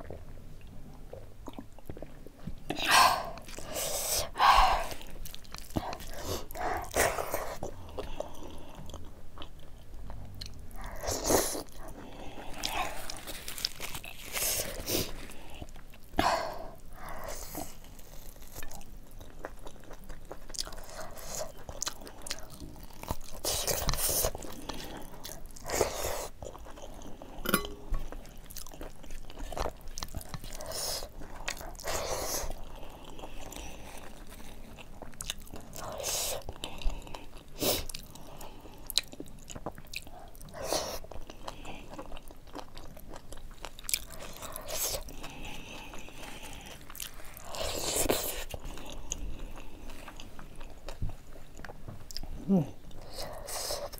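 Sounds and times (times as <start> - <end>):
person chewing and smacking: 0.0 - 53.9.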